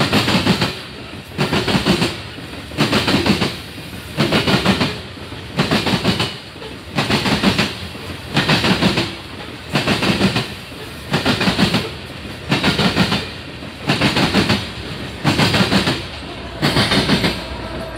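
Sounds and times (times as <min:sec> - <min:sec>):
freight train rolling rumble: 0:00.0 - 0:17.9
train wheels clattering: 0:00.0 - 0:17.9.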